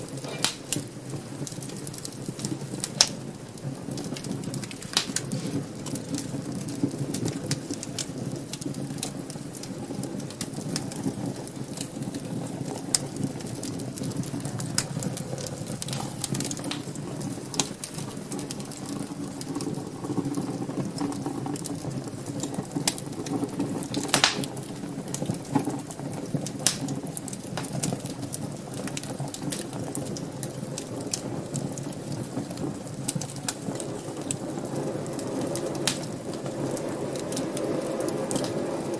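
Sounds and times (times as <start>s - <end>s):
fire crackling and popping: 0.0s - 38.9s
fire flames rushing: 0.0s - 38.9s.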